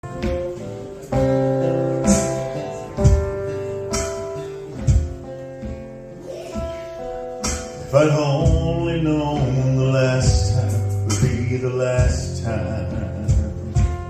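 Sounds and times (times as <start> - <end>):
live band guitar chords: 0.0 - 14.0.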